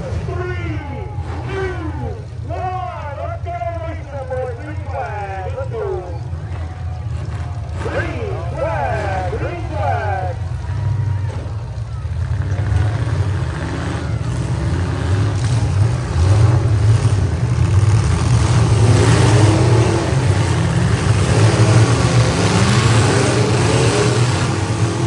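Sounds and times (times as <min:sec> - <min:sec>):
truck engines revving hard: 0:00.0 - 0:25.0.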